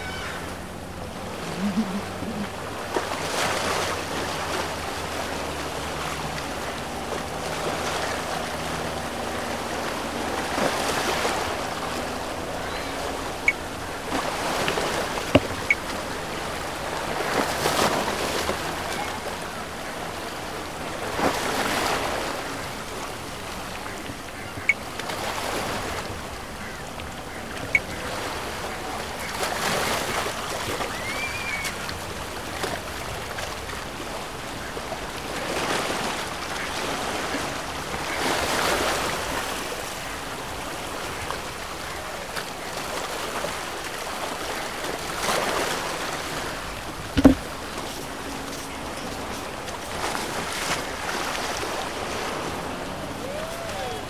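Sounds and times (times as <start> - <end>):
small waves washing in: 0.0 - 54.0
speedboat engine hum: 0.0 - 54.0.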